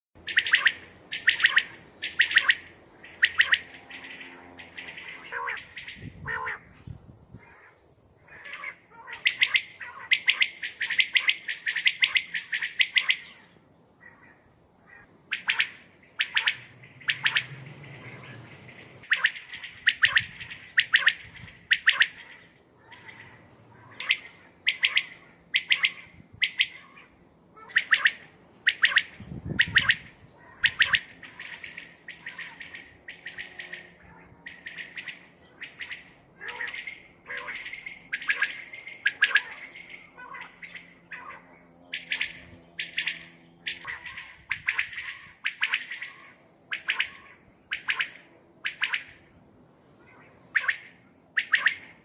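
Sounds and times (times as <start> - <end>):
quail calling: 0.2 - 49.4, 50.0 - 52.0.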